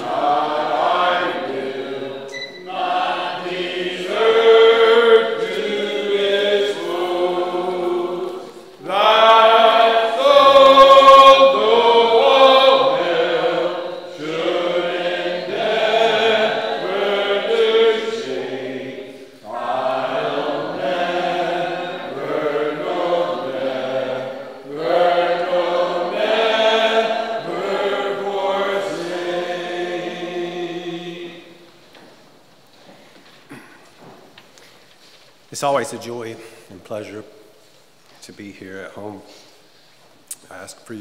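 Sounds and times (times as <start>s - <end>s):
congregation singing a hymn: 0.0s - 34.3s.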